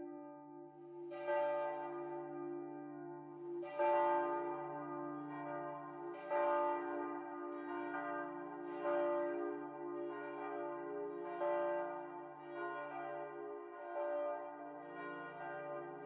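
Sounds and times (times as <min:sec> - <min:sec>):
church bell tolling: 0:01.1 - 0:16.0.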